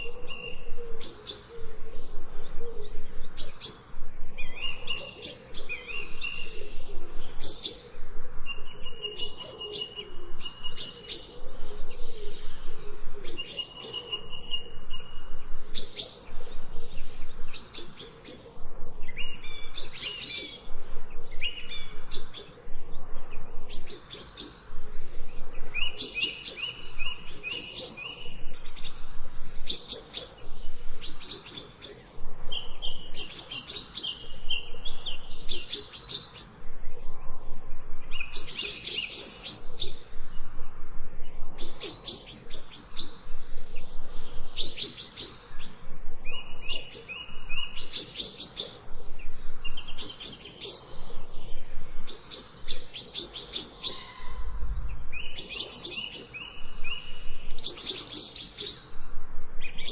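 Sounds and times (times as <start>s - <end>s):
low bird warbling: 0.0s - 59.9s
songbirds chirping and singing: 0.0s - 59.9s.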